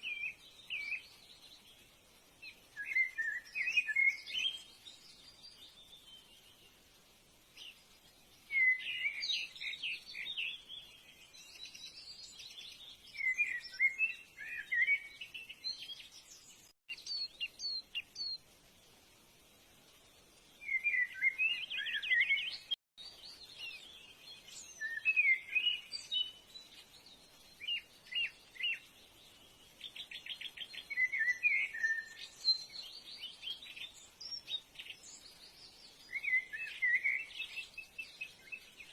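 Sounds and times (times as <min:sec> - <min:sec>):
birds chirping and trilling: 0:00.0 - 0:18.6, 0:19.5 - 0:38.9
faint steady hiss: 0:00.0 - 0:38.9.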